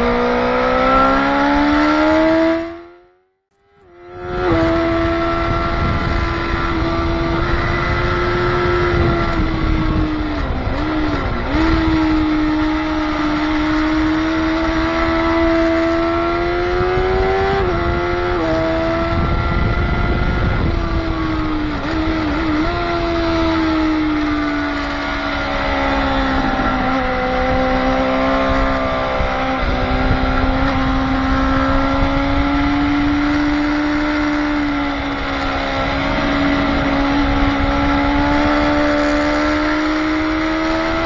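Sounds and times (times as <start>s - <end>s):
motorcycle engine at high revs: 0.0s - 41.0s
wind rush: 4.0s - 41.0s.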